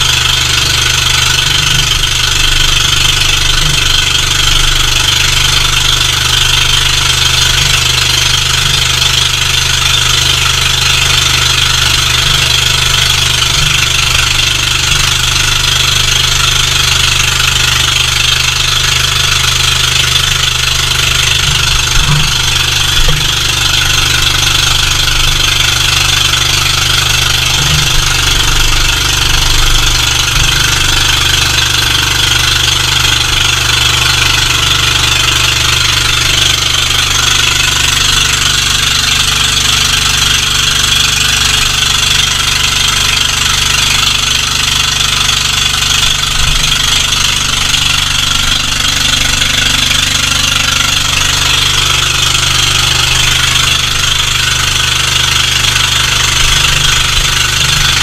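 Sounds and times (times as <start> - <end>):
boat engine running: 0.0 - 58.0
water rushing along hull: 0.0 - 58.0.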